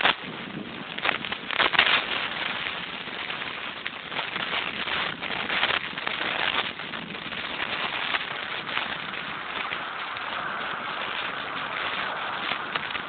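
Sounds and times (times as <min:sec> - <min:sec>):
bicycle tyres on asphalt: 0:00.0 - 0:13.0
wind on microphone: 0:00.0 - 0:13.0.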